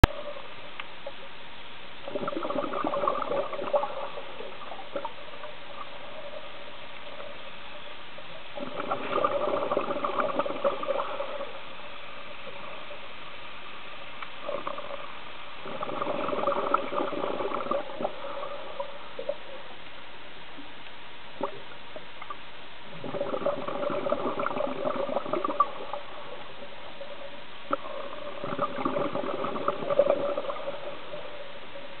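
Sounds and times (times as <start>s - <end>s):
faint steady hiss: 0.0s - 32.0s
underwater exhaled bubbles: 2.0s - 19.9s, 21.3s - 32.0s.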